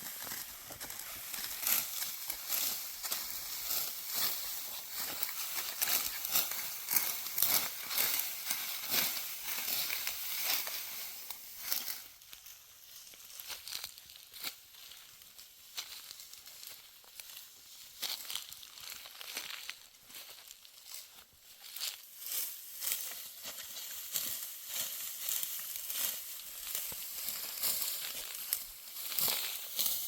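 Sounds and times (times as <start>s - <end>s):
crackling and rustling stalks: 0.0s - 30.0s
sickle cutting dry stalks: 0.0s - 30.0s.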